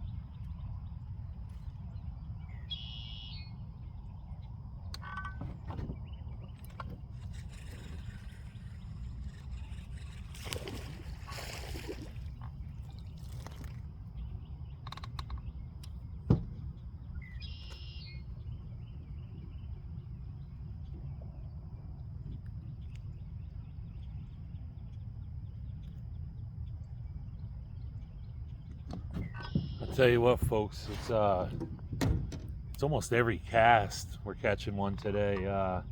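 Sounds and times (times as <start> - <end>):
low steady rumble: 0.0 - 35.9.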